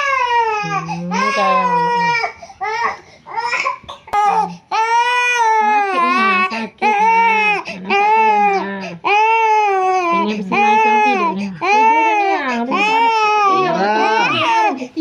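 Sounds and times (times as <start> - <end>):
baby crying: 0.0 - 15.0.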